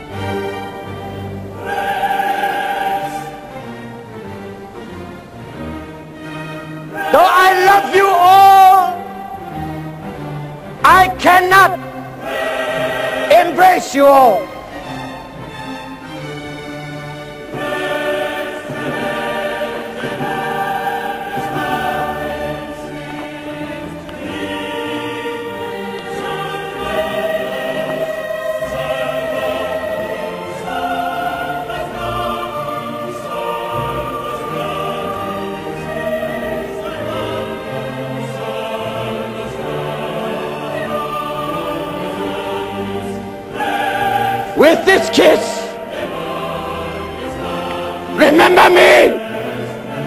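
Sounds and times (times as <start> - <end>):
choir singing held chords: 0.0 - 50.0.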